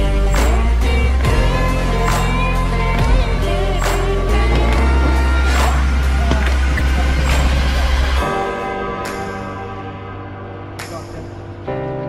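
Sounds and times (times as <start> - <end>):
sustained bass notes: 0.0 - 12.0.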